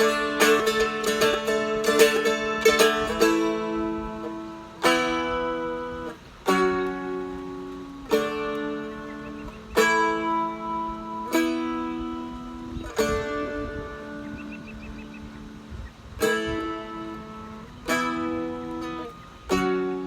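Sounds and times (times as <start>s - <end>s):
dulcimer strumming: 0.0s - 20.0s.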